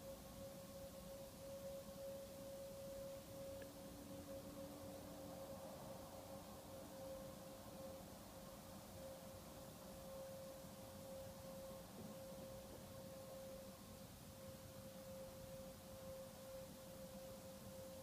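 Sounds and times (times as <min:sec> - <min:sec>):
background hiss: 0:00.0 - 0:18.0
faint steady hum: 0:00.0 - 0:18.0.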